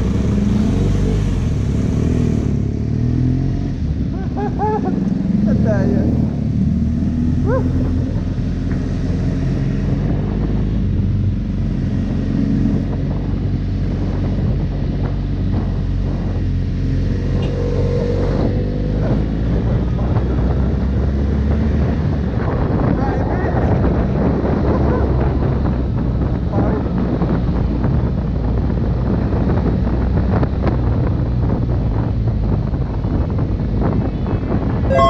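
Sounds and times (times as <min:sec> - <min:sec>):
wind noise on microphone: 0:00.0 - 0:35.0.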